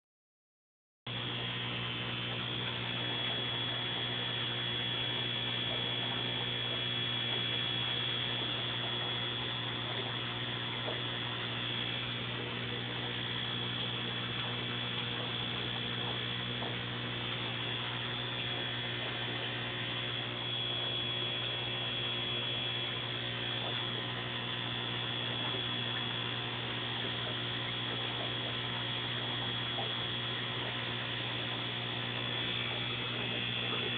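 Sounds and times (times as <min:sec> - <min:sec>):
aquarium equipment humming: 0:01.1 - 0:33.9
thin high whine: 0:01.1 - 0:33.9.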